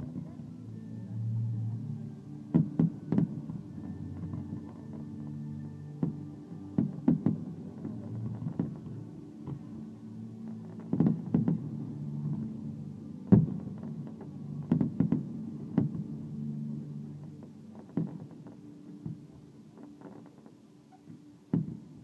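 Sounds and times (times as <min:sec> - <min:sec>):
steady low tones: 0:00.0 - 0:17.8.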